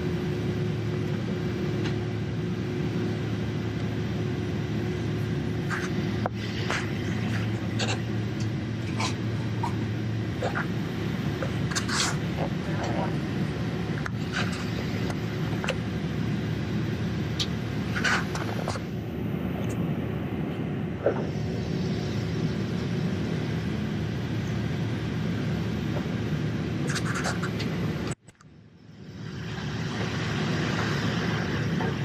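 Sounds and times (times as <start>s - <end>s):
aircraft cabin rumble: 0.0s - 32.0s.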